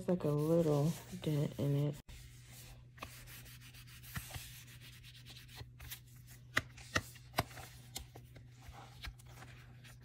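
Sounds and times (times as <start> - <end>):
rustling against binder cover: 0.2 - 10.0.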